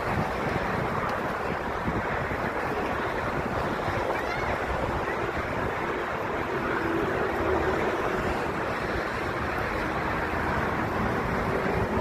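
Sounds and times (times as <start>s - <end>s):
distant jet engines roaring: 0.0s - 12.0s
wind buffeting microphone: 0.0s - 12.0s.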